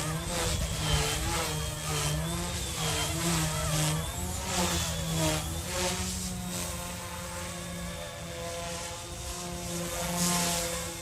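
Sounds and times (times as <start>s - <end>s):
rc helicopter motor and rotor whine: 0.0s - 11.0s.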